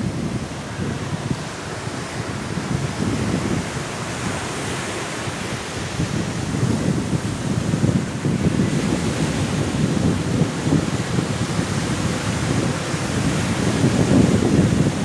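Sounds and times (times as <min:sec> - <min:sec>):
sea waves washing on a beach: 0:00.0 - 0:15.0
strong wind: 0:00.0 - 0:15.0.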